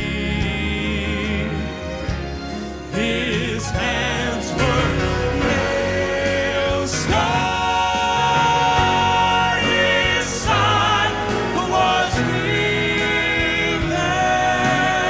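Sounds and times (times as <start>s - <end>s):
grand piano: 0.0s - 15.0s
male quartet singing in harmony: 0.0s - 15.0s.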